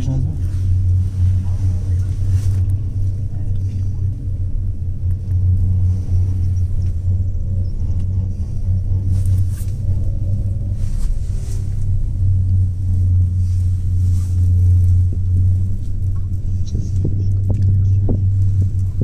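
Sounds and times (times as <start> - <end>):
cable car cabin rumble: 0.0 - 19.0.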